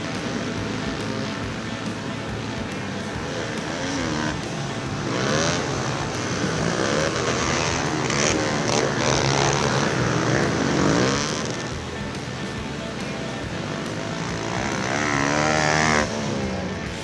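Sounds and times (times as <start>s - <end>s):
pit bike engines revving: 0.0s - 17.0s.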